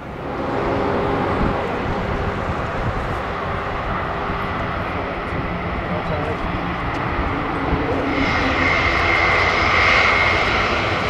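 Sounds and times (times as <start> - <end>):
propeller and engine drone: 0.0 - 11.0.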